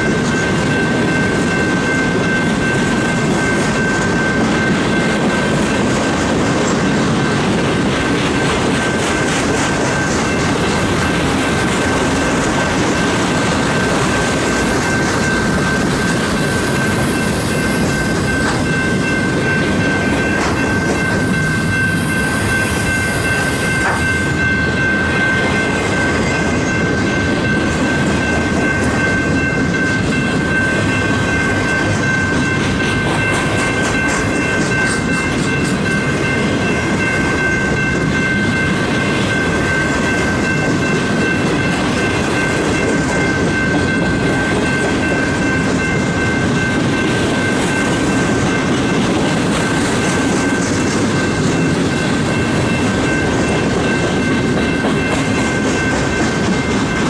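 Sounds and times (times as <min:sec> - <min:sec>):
freight train rumbling past: 0:00.0 - 0:57.0
wheels clattering over rail joints: 0:00.0 - 0:57.0
steady high tone: 0:08.3 - 0:57.0.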